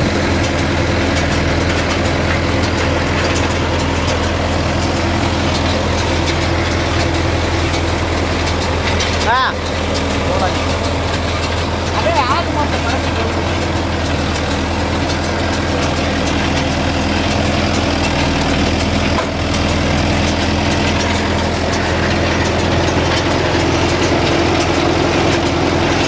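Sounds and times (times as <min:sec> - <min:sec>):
faint rapid machinery ticking: 0:00.0 - 0:26.0
tractor diesel engine running: 0:00.0 - 0:26.0.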